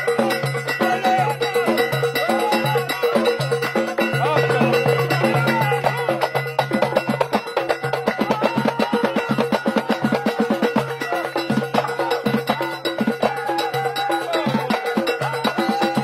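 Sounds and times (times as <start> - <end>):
fast hand percussion rhythm: 0.0 - 16.0.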